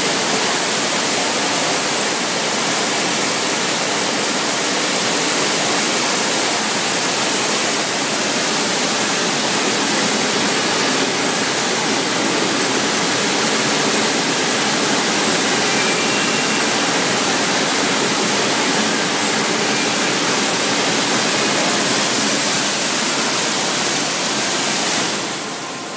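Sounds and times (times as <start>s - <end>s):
rush of water in crate washer: 0.0s - 25.9s.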